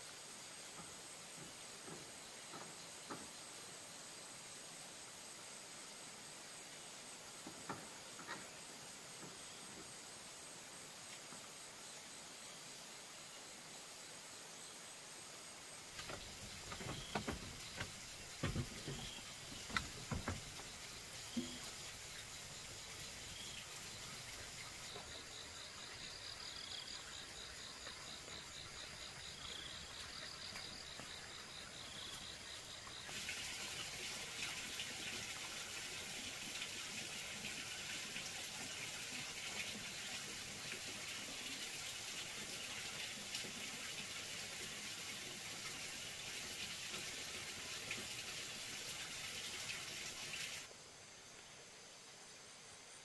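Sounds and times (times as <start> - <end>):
running water rushing: 0.0 - 50.8
insects chirring: 0.0 - 53.0.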